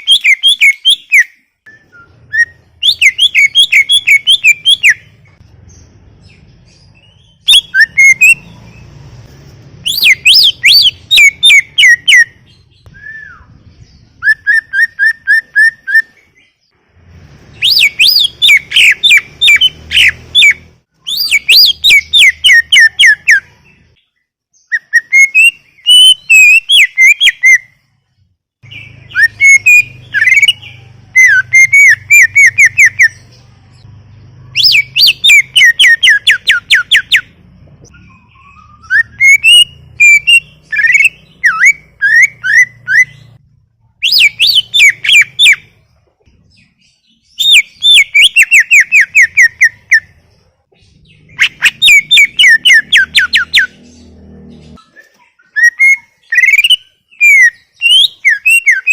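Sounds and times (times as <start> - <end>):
bird singing fast chirping notes: 0.0 - 58.9.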